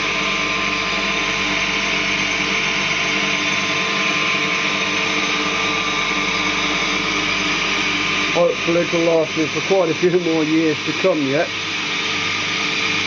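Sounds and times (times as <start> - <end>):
saw bench and planer running: 0.0 - 13.0.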